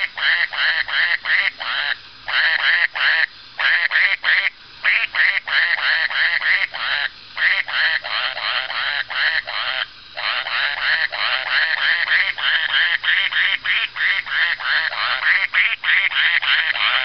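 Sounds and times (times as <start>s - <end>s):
toy duck electronic quacks: 0.0s - 17.0s.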